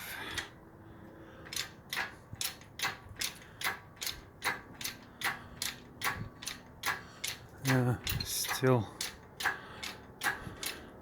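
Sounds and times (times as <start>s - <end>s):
hoist ratchet clicking: 1.4s - 11.0s.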